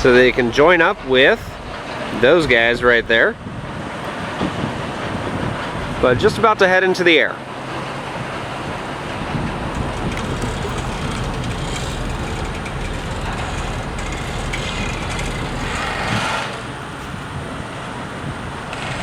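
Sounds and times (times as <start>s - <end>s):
heavy engines rumbling: 0.0s - 19.0s
road traffic: 0.0s - 19.0s.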